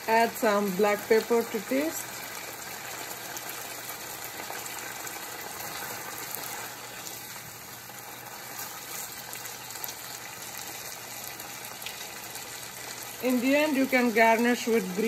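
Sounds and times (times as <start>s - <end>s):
food sizzling in a saucepan: 0.0s - 15.0s.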